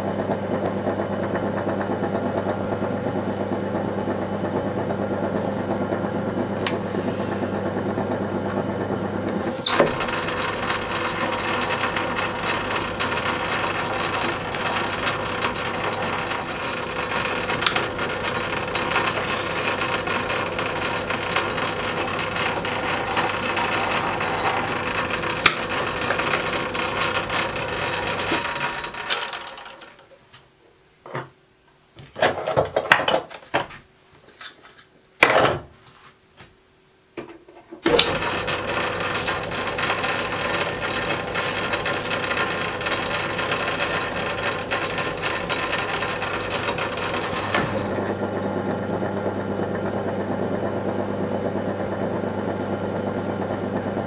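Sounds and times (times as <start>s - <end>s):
lathe running: 0.2s - 30.0s, 37.9s - 54.0s.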